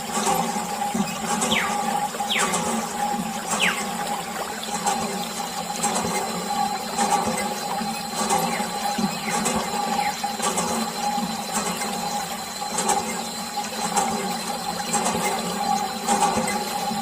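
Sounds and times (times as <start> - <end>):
small water pump humming: 0.0 - 17.0.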